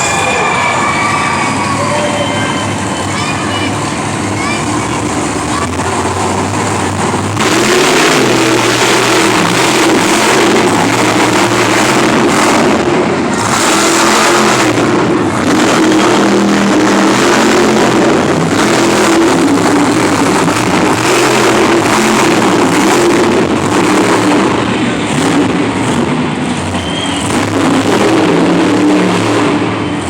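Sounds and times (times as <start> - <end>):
monster truck engine revving: 0.0 - 30.0.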